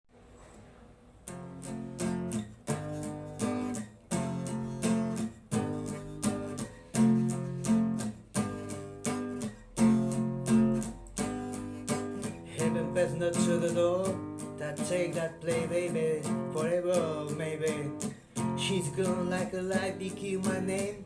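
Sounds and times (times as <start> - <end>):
guitar strumming chords: 1.3 - 21.0.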